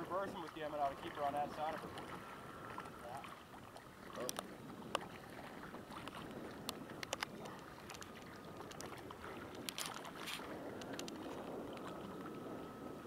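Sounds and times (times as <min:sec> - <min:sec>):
lake water lapping: 0:00.0 - 0:13.0
wind on microphone: 0:00.0 - 0:13.0
faint thin whine of model boat: 0:01.5 - 0:13.0.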